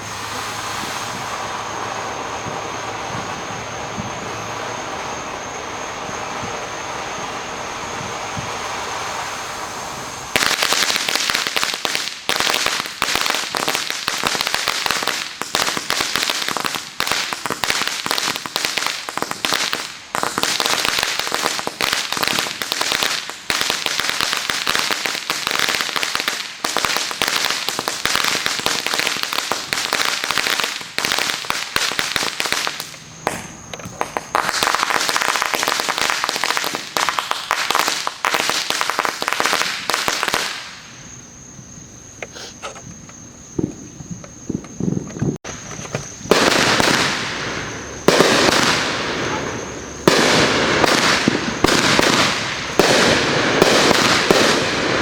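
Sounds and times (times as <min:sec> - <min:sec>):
firecrackers banging: 0:00.0 - 0:55.0
steady hiss: 0:00.0 - 0:55.0.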